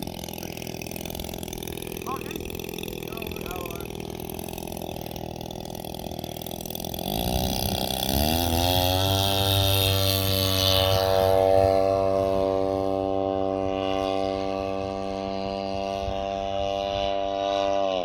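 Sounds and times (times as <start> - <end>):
model plane engine revving: 0.0 - 18.0.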